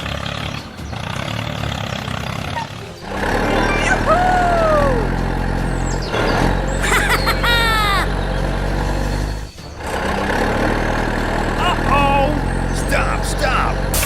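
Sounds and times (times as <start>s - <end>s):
falling whistle-like calls: 0.0s - 14.0s
toy vehicle engine drone: 0.0s - 14.0s.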